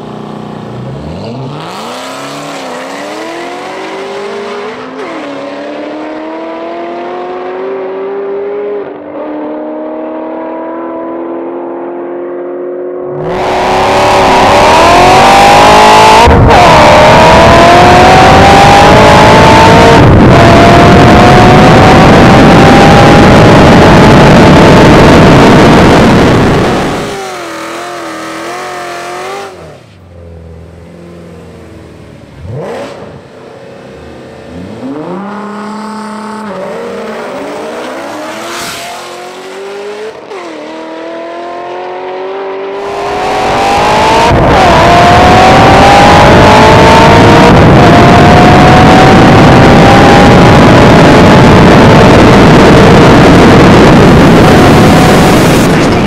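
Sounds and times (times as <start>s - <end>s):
car engines revving: 0.0s - 56.0s
cars launching at full throttle: 0.8s - 30.4s, 31.2s - 56.0s.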